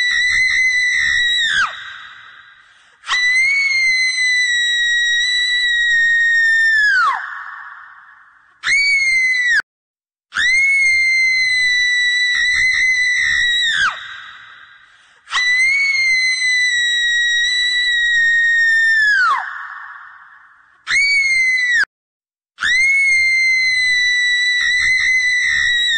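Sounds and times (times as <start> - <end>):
high-pitched screams with echo: 0.0 - 9.6, 10.4 - 21.9, 22.6 - 25.9.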